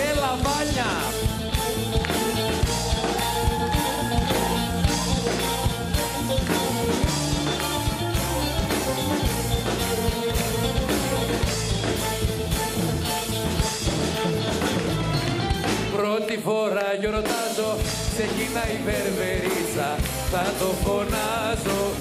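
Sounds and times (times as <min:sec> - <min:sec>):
drum kit beat: 0:00.0 - 0:22.0
rock guitar: 0:00.0 - 0:22.0.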